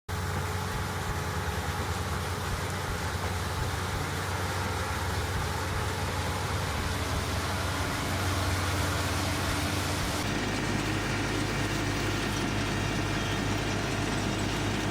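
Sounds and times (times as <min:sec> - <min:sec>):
farm machine engine humming: 0:00.1 - 0:14.9.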